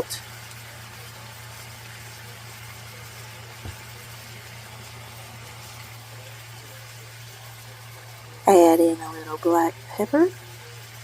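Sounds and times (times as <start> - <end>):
food sizzling in a pan: 0.0 - 11.0
low constant hum: 0.0 - 11.0.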